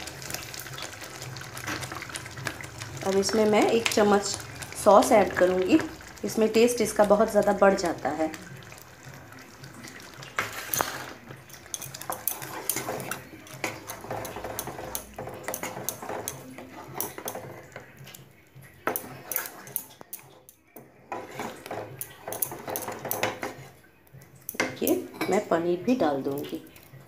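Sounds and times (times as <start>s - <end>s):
wooden spoon stirring in a pan: 0.0s - 23.8s.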